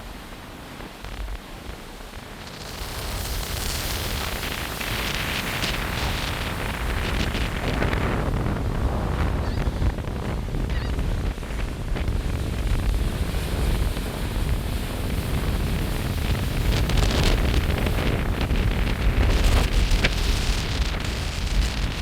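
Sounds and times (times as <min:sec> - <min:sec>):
ocean surf hissing: 0:00.0 - 0:22.0
wind buffeting microphone: 0:00.0 - 0:22.0.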